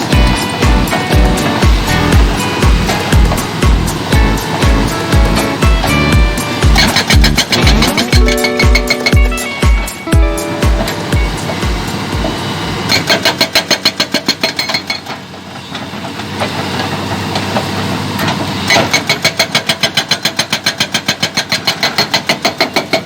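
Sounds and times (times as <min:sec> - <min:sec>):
hydraulic rock breaker hammering: 0:00.0 - 0:09.9, 0:10.8 - 0:23.0
excavator engine running: 0:00.0 - 0:21.8.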